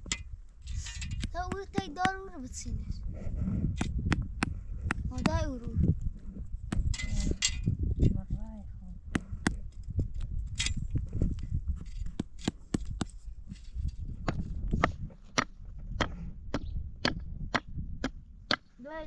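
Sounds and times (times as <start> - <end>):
low rumble: 2.2 - 18.5.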